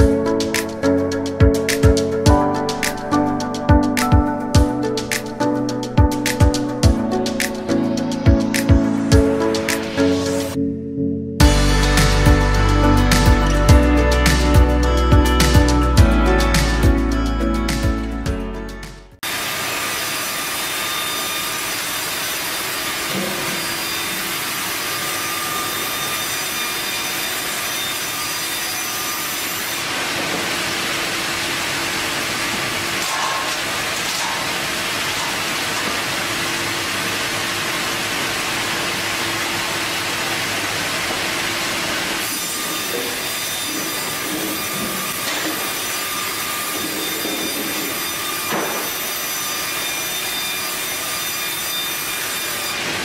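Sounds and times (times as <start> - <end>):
saw blades cutting wood: 0.0 - 10.6, 19.2 - 53.0.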